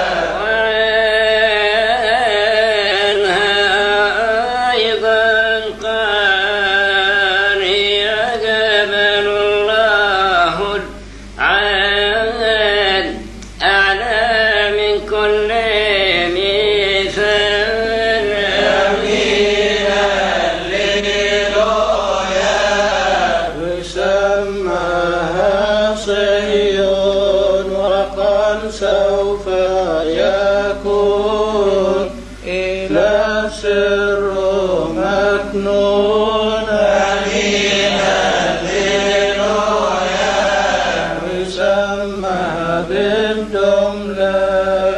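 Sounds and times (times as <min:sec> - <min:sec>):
man chanting a hymn: 0:00.0 - 0:44.9.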